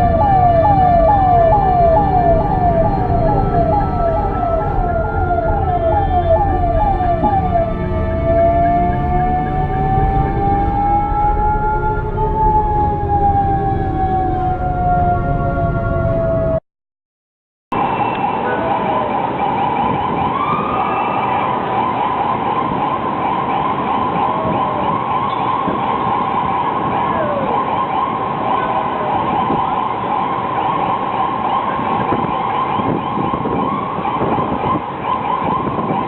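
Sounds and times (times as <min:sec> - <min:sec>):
ambulance siren: 0:00.0 - 0:16.6, 0:17.7 - 0:36.0
road noise rumble: 0:00.0 - 0:16.6, 0:17.7 - 0:36.0.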